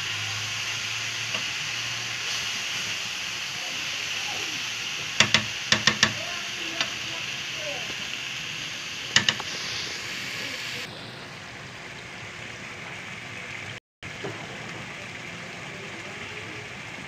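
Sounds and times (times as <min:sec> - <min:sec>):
onions sizzling in a frying pan: 0:00.0 - 0:15.3.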